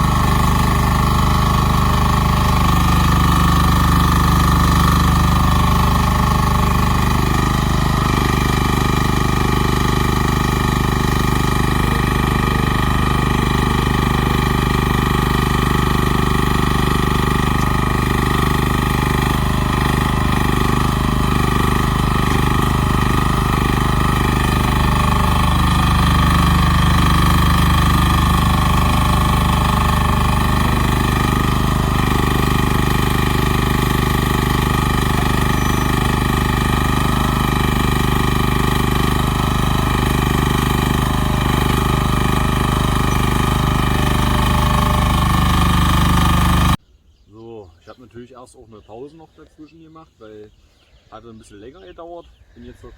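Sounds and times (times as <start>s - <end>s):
excavator engine running: 0.0s - 46.8s.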